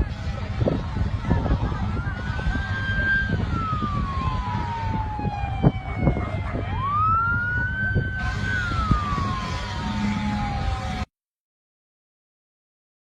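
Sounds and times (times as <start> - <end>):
emergency siren wailing: 0.0 - 11.1
low rumble: 0.0 - 11.1.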